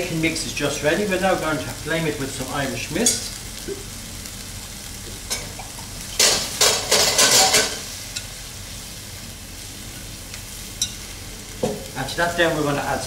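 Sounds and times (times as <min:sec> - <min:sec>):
burst of sizzling from flambe: 0:00.0 - 0:13.0
pan frying sizzle: 0:00.0 - 0:13.0.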